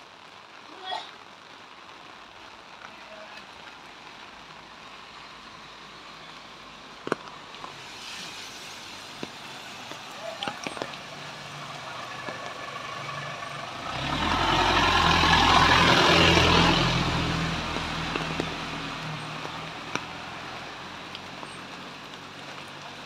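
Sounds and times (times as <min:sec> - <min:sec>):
tyres swishing on wet road: 0:00.0 - 0:23.0
vehicle engine hum: 0:04.5 - 0:23.0.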